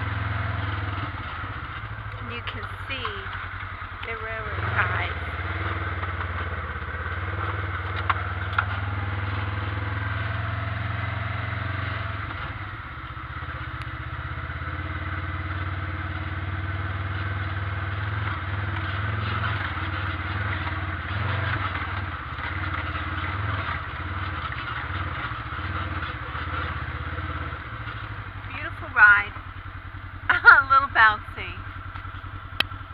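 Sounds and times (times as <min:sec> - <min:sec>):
atv engine running: 0:00.0 - 0:32.9.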